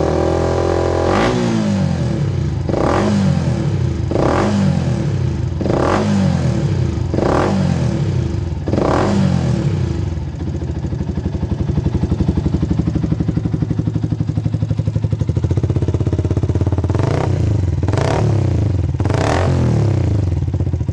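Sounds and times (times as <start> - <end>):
motorcycle engine idling: 0.0 - 20.9
motorcycle engine revving: 0.0 - 20.9.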